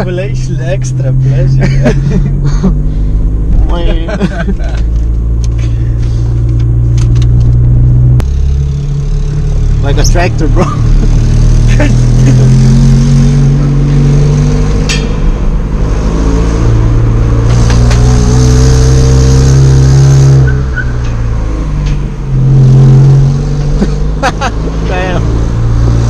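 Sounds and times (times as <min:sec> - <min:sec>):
car engine droning: 0:00.0 - 0:26.0.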